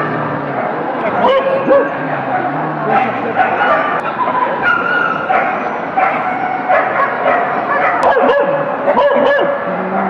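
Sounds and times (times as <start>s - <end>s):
dogs barking and yipping: 0.0s - 10.0s
steady background noise: 0.0s - 10.0s.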